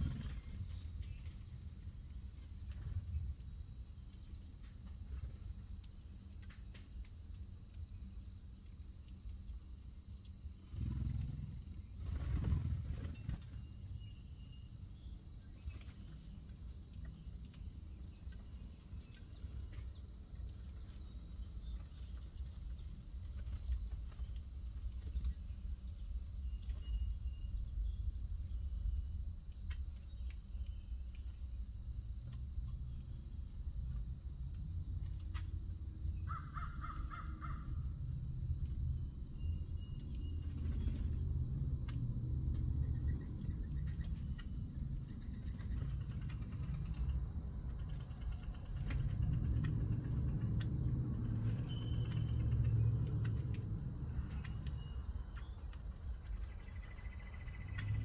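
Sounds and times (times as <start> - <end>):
constant high hum: 0.0 - 58.0
steady low rumble: 10.6 - 58.0.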